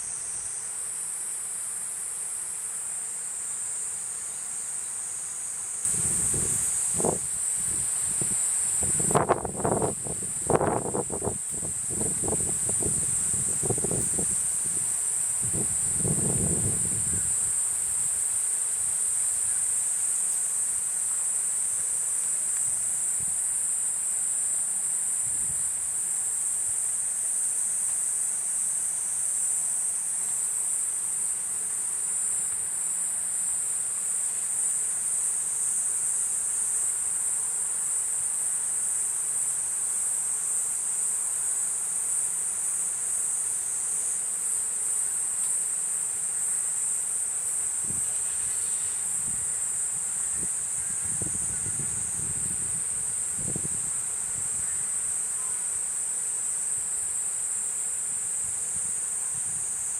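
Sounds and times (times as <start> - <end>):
cicada buzzing: 0.0 - 59.9.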